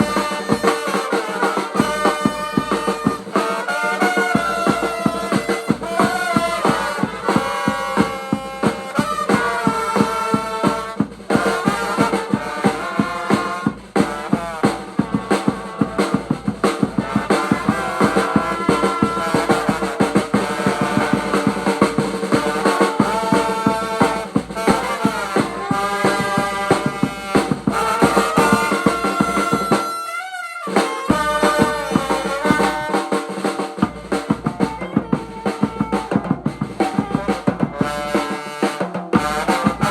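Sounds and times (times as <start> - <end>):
brass melody: 0.0 - 39.9
drum kit snare and bass drum: 0.0 - 39.9.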